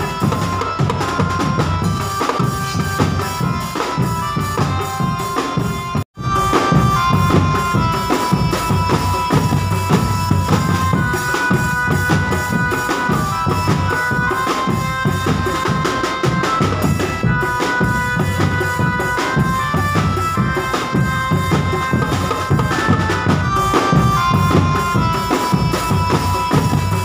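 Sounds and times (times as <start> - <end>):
drums beating: 0.0 - 27.0
melody of long held notes: 0.0 - 27.0.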